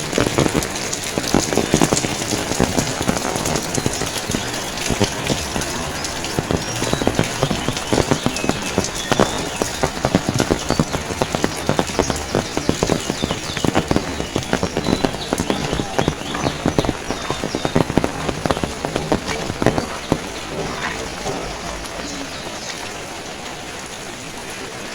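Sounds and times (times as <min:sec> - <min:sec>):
rain pattering on hard surface: 0:00.0 - 0:24.9.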